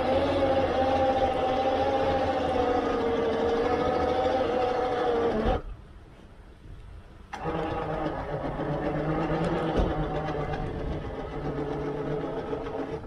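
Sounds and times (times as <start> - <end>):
winch running: 0.0 - 5.7, 7.3 - 13.0.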